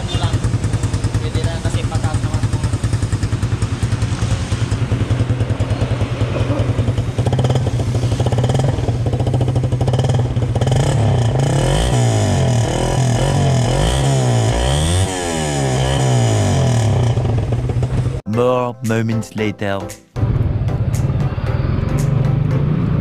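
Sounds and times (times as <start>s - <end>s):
motorcycle engine idling and revving: 0.0s - 18.3s, 20.2s - 23.0s.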